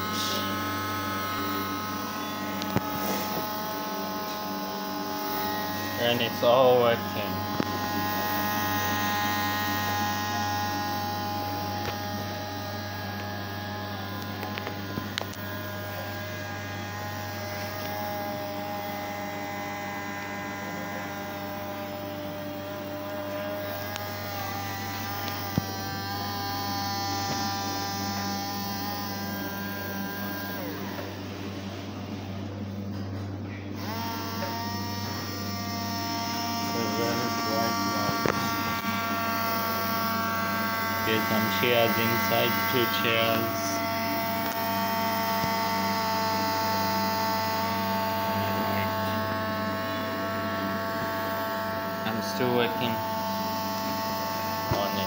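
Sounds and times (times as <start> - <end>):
electrical hum with whining tones: 0.0 - 55.0
small electric motor buzzing: 0.0 - 55.0.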